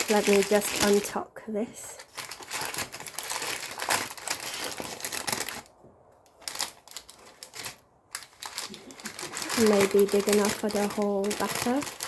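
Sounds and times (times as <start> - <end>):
baking paper crinkling: 0.0 - 1.2, 1.9 - 12.0.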